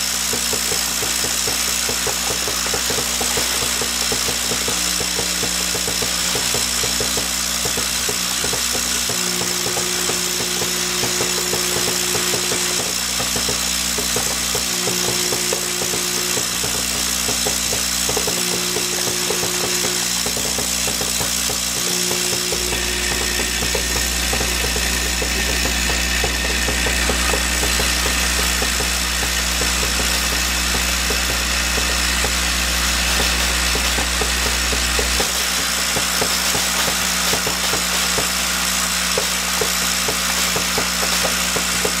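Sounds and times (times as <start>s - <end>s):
parts feeder electric hum: 0.0s - 42.0s.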